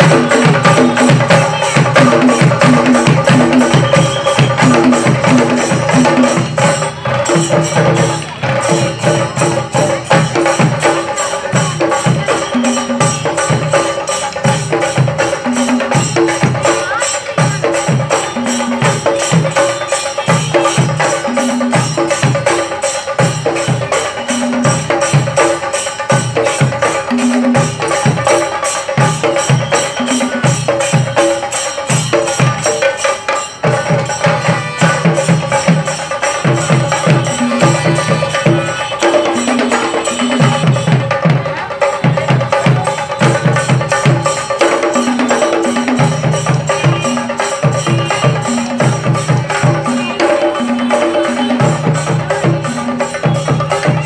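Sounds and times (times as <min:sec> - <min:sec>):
drums beaten with sticks: 0:00.0 - 0:54.0.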